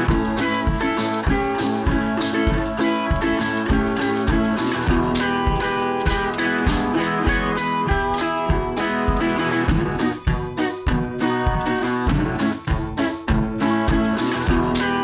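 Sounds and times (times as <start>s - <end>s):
guitar music with steady beat: 0.0s - 15.0s.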